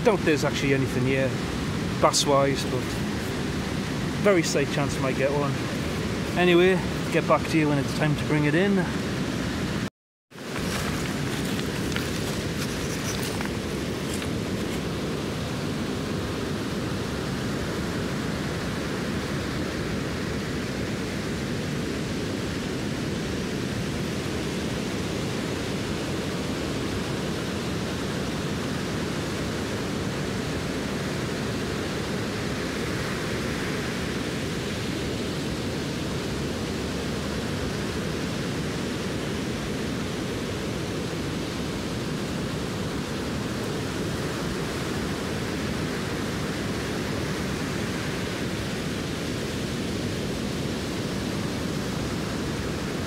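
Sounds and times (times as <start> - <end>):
waves breaking on beach: 0.0 - 53.0
wind on microphone: 8.6 - 53.0.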